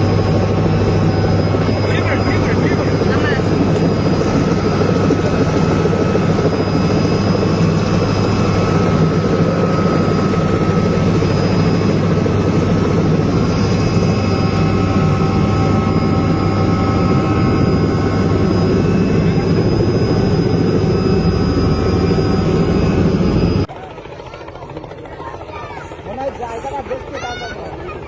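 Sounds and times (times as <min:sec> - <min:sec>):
helicopter rotor noise: 0:00.0 - 0:28.0.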